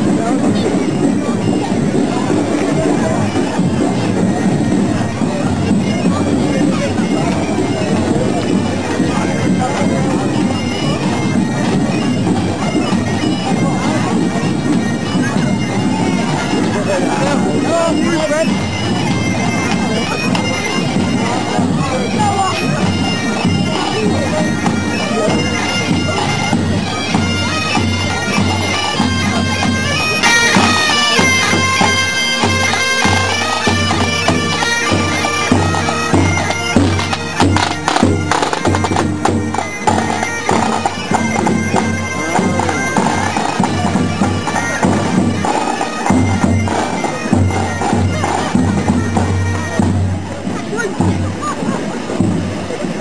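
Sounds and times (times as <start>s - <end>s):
bagpipes playing a march: 0.0s - 53.0s.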